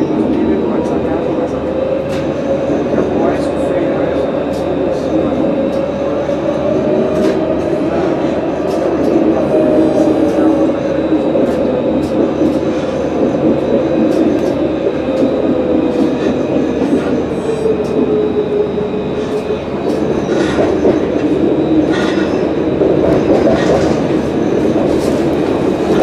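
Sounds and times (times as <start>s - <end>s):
tram wheels rumbling on rail: 0.0s - 26.0s
tram whine: 0.0s - 26.0s.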